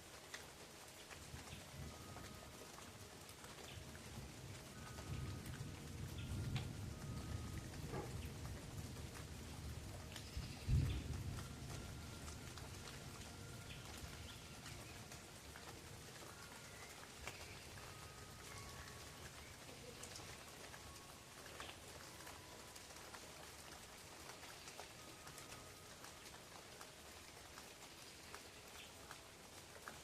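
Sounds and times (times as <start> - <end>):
rain pattering on leaves: 0.0 - 30.0.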